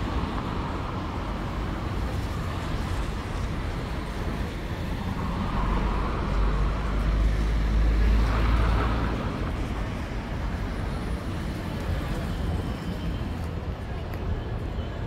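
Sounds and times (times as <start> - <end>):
city traffic: 0.0 - 15.0.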